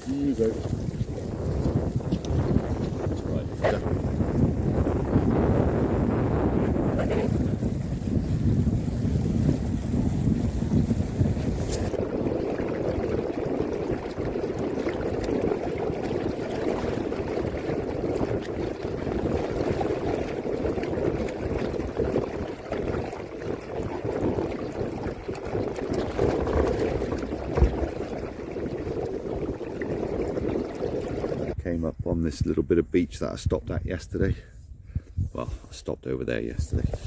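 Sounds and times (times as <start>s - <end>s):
water lapping against a hull: 0.0s - 37.0s.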